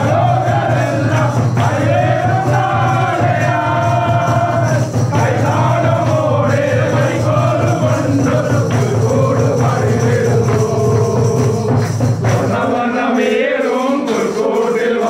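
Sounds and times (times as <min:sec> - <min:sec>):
men singing a carol: 0:00.0 - 0:15.0.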